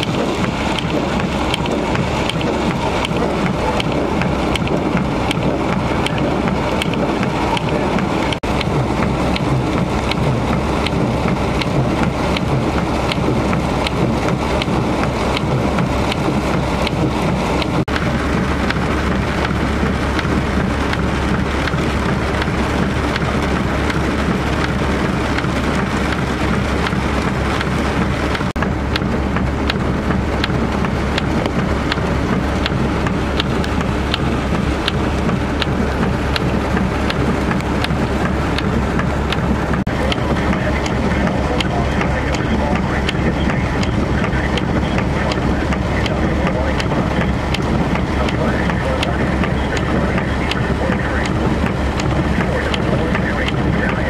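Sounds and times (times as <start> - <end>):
light ticks: 0.0 - 18.8, 28.3 - 54.0
heavy rain: 0.0 - 54.0
vehicle engine hum: 0.0 - 54.0.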